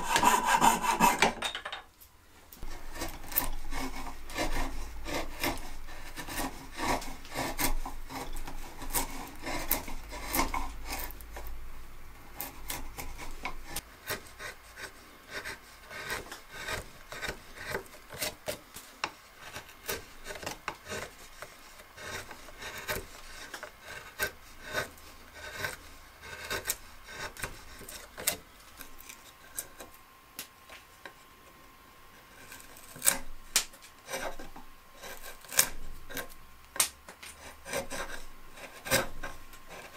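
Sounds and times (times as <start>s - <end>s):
chisel scraping cuts in wood: 0.0s - 1.4s, 2.6s - 11.6s, 12.3s - 30.0s, 32.2s - 36.4s, 37.3s - 39.9s.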